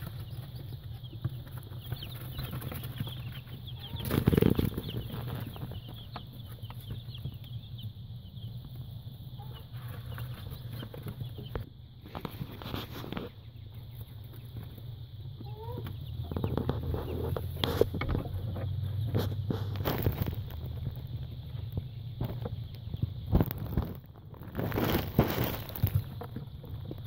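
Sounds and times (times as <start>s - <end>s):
chicks peeping: 0.0s - 27.0s.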